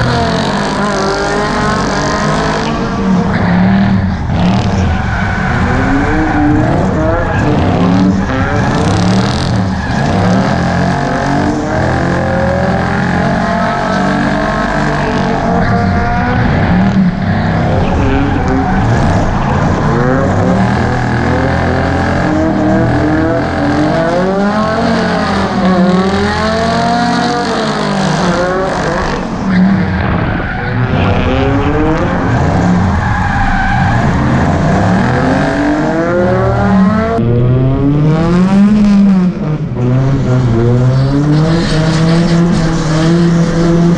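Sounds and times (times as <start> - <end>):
car engines revving hard: 0.0 - 43.9.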